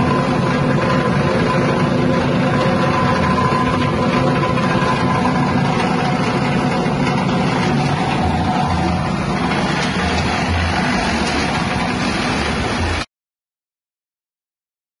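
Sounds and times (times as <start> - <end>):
small petrol engine running: 0.0 - 13.1.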